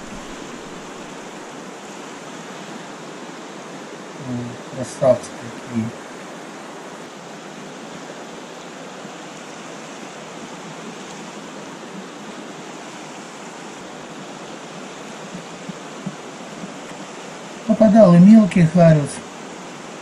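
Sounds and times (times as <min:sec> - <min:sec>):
river rapids rushing over stones: 0:00.0 - 0:20.0.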